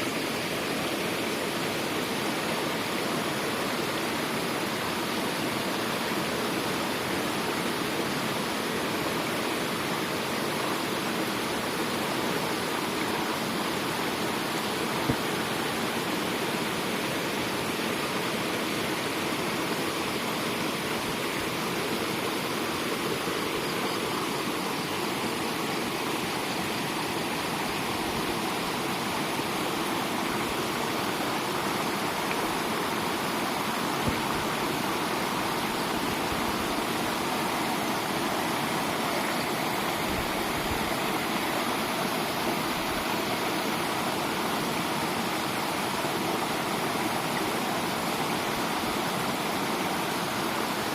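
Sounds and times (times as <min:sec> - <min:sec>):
water rushing through waterway: 0:00.0 - 0:50.9.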